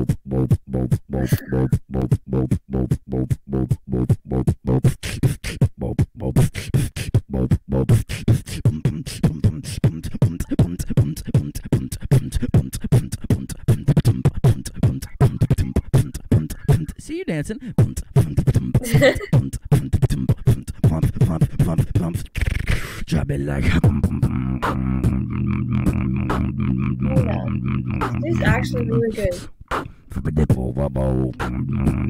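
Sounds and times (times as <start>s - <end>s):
beatboxing: 0.0s - 32.0s.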